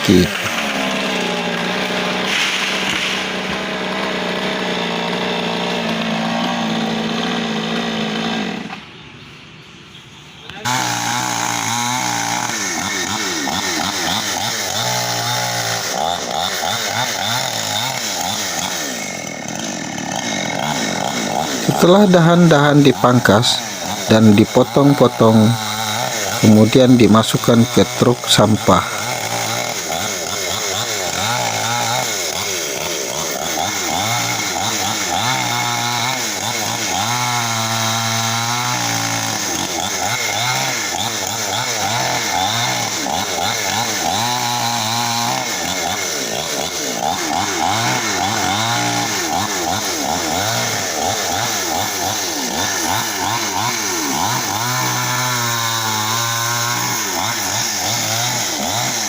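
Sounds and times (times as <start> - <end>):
chainsaw cutting branches: 0.0 - 8.9, 10.5 - 59.0.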